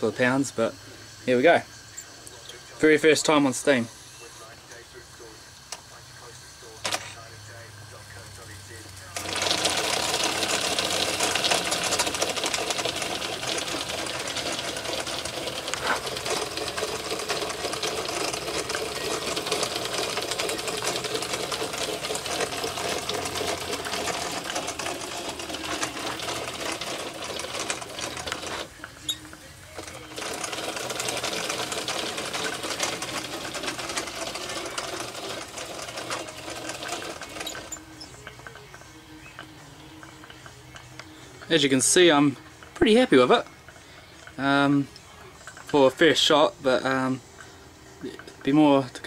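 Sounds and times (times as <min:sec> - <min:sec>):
steam hissing: 0:00.0 - 0:48.4
steam engine mechanical clatter: 0:08.2 - 0:49.0.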